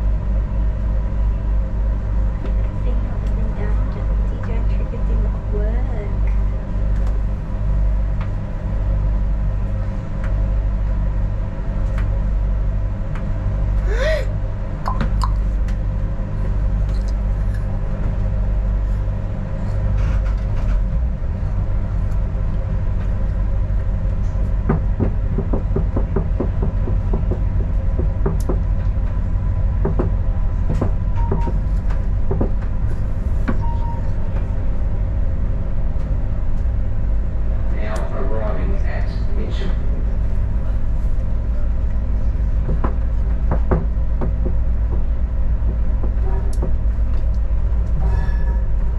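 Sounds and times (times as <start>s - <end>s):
railcar engine drone: 0.0s - 48.9s.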